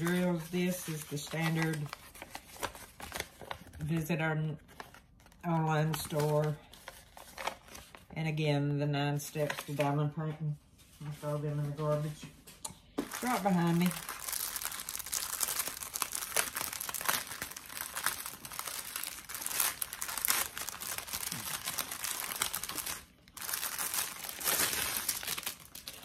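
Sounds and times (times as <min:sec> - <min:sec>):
plastic bag crinkling: 0:00.0 - 0:08.1, 0:13.0 - 0:26.0.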